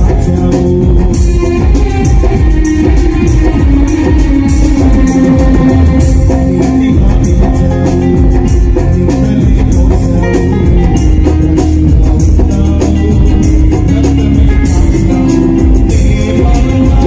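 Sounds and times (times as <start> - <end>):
electronic keyboards: 0.0 - 17.0
hand drum beat: 0.0 - 17.0.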